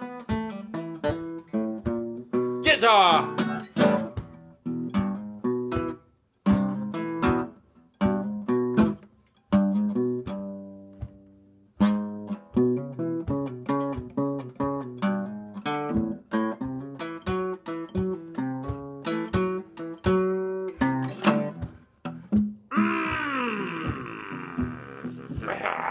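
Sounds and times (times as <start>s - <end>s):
acoustic guitar strumming: 0.0s - 22.8s.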